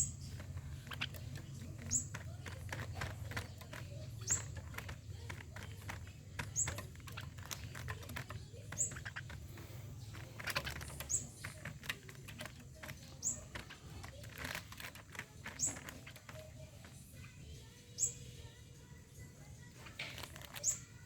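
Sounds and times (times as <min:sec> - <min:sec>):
clicks and rustling: 0:00.0 - 0:17.4, 0:19.6 - 0:21.0.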